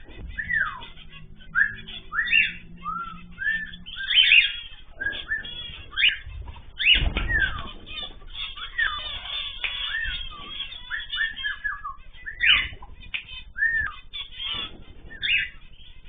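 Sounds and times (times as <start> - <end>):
low rumble or flutter: 0.0 - 10.9, 12.6 - 16.0
caged birds chirping and whistling: 0.0 - 16.0.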